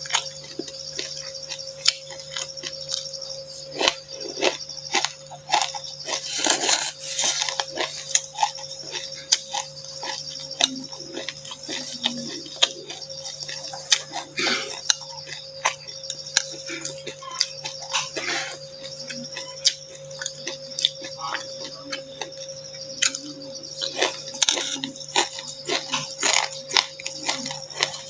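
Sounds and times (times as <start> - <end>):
chewing and crunching seeds: 0.0 - 28.0
steady low hum: 0.0 - 28.0.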